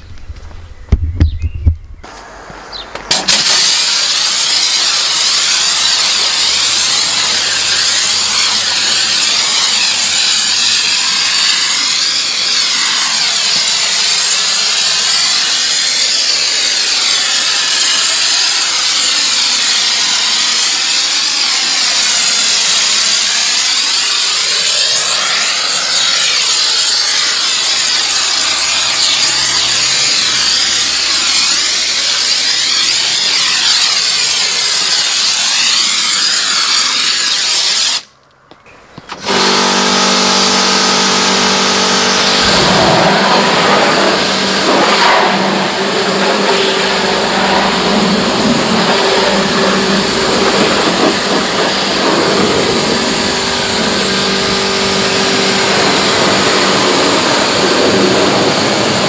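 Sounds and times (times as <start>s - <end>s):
pressure washer spraying water: 2.1s - 38.1s, 39.1s - 59.0s.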